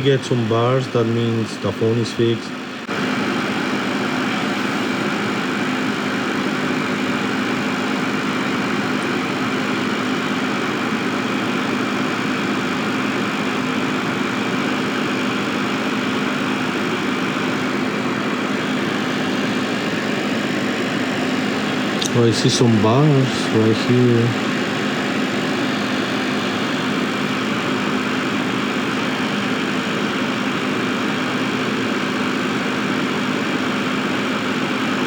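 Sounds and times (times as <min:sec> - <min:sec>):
machine hiss and hum: 0:00.0 - 0:35.0.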